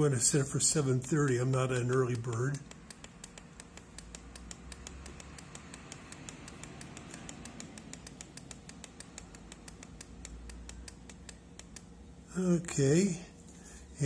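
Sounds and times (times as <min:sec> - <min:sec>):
faint even clicking: 0:00.7 - 0:12.0.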